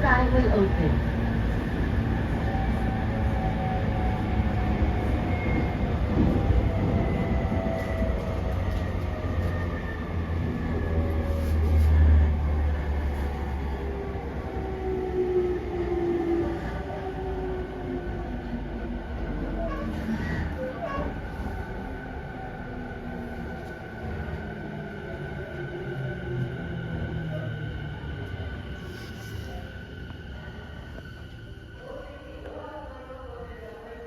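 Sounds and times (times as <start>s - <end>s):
train wheel and rail rumble: 0.0s - 34.0s.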